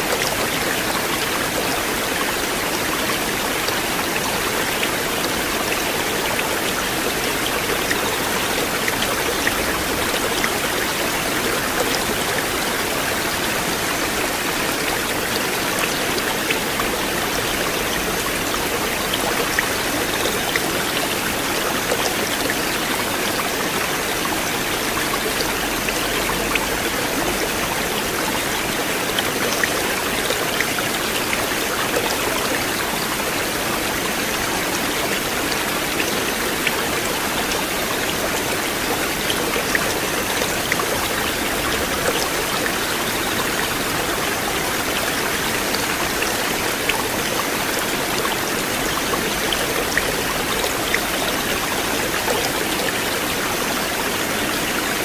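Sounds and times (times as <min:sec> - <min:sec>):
river water rushing: 0:00.0 - 0:55.0
water splashes and drips: 0:00.0 - 0:55.0.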